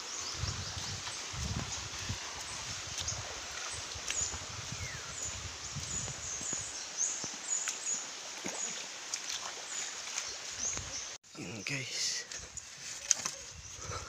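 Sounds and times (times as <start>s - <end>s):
stream running over rocks: 0.0s - 13.8s
birds chirping: 0.0s - 14.0s.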